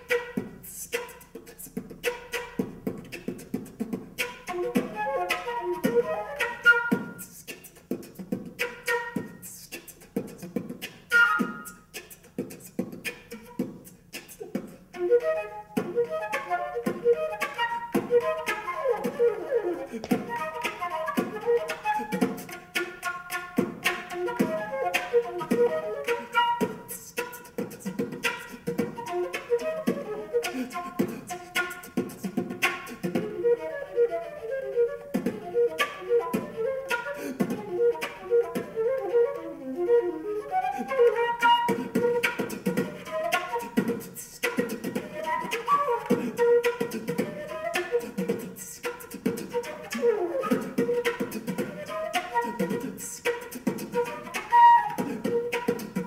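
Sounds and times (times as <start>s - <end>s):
beatbox flute: 0.0s - 56.0s.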